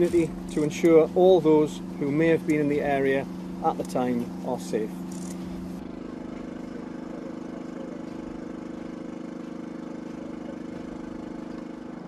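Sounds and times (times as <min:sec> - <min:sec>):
heavy vehicle engine idling: 0:00.0 - 0:12.0.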